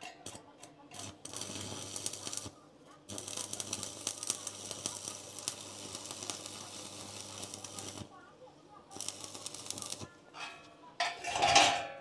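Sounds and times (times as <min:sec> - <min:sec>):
arc welding crackling sizzle: 0:00.0 - 0:10.3.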